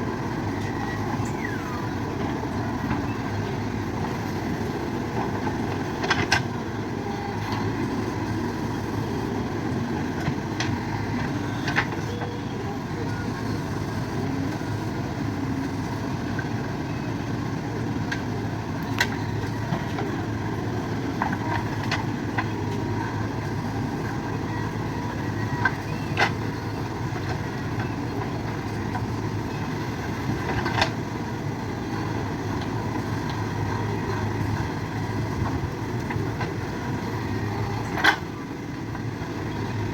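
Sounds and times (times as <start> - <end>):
earthmover engine running: 0.0 - 39.9.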